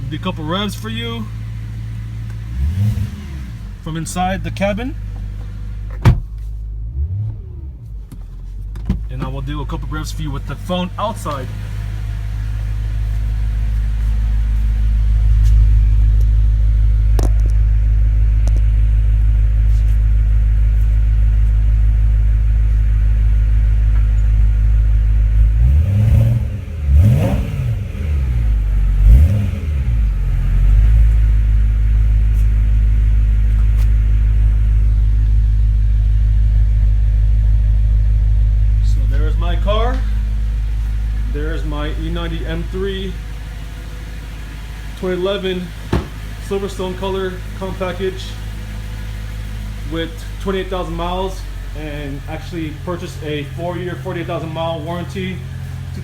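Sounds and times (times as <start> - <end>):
car engine idling: 0.0 - 56.0
engine throttle blips: 0.0 - 56.0.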